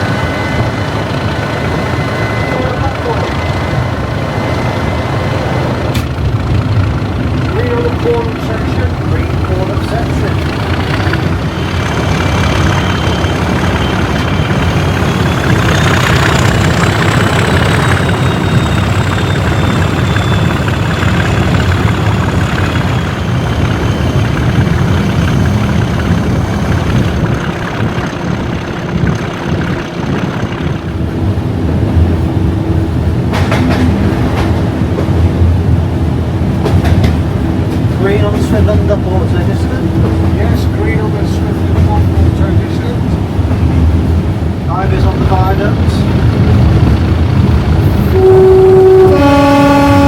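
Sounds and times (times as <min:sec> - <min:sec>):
diesel locomotive engine running: 0:00.0 - 0:50.0.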